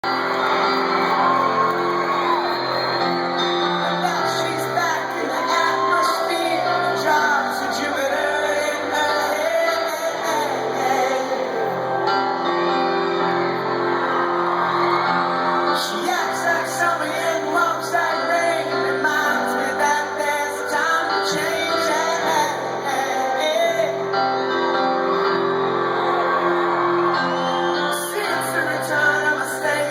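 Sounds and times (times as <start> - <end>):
crowd shouting and whooping: 0.0 - 29.9
live rock band with singing: 0.0 - 29.9.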